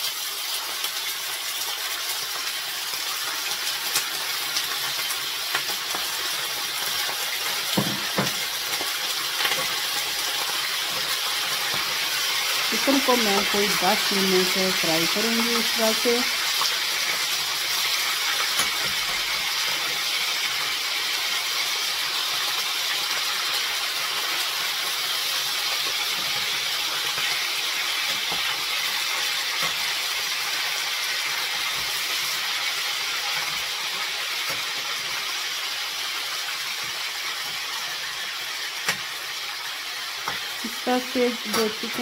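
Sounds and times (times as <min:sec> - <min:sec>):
chicken sizzling in hot oil: 0:00.0 - 0:42.0.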